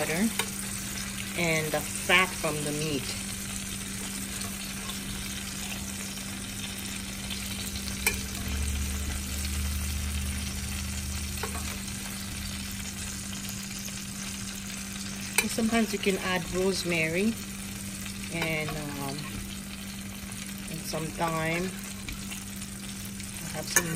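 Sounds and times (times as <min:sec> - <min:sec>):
fat sizzling in a pan: 0:00.0 - 0:23.9
steady low hum: 0:00.0 - 0:23.9.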